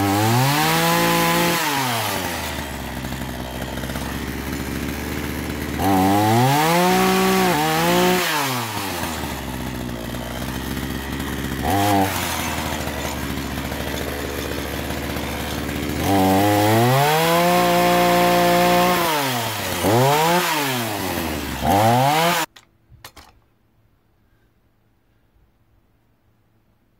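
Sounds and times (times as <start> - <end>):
chainsaw idling and revving: 0.0 - 22.5.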